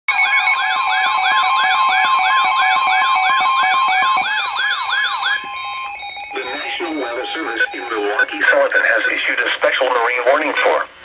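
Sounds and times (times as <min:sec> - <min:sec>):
sweeping electronic siren: 0:00.1 - 0:09.2
steady high alert tone: 0:00.1 - 0:10.0.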